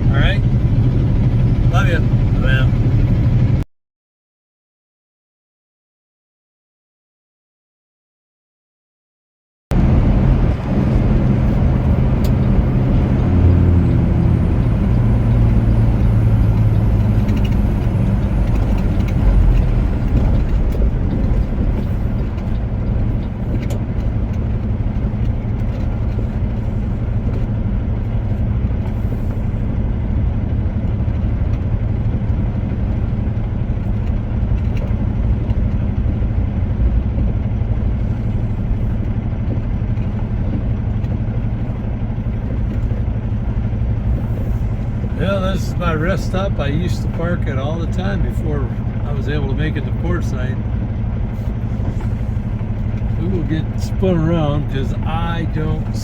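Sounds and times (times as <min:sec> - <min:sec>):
road noise: 0:00.0 - 0:03.6, 0:09.7 - 0:56.0
truck diesel engine running: 0:00.0 - 0:03.6, 0:09.7 - 0:56.0.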